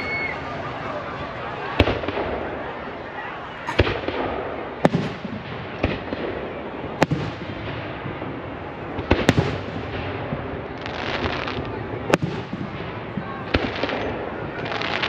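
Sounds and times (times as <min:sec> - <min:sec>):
continuous noisy background: 0:00.0 - 0:15.0.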